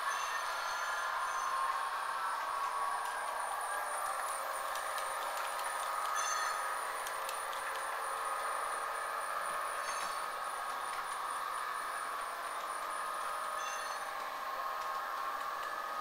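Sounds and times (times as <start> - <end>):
thin high whine: 0.0 - 16.0.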